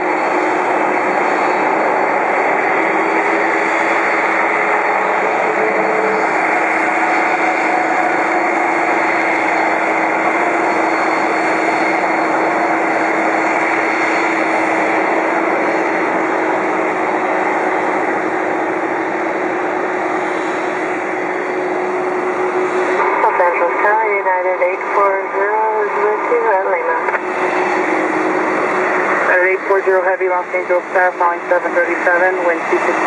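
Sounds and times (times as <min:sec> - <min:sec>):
jet engines roaring: 0:00.0 - 0:33.0
steady jet engine whine: 0:00.0 - 0:33.0.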